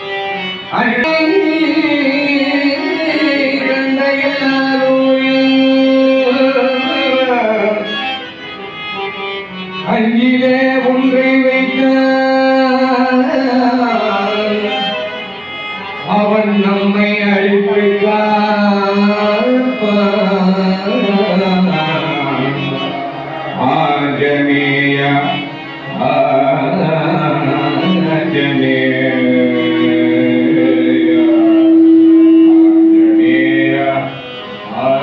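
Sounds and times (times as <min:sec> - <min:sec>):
devotional singing with instruments: 0:00.0 - 0:35.0.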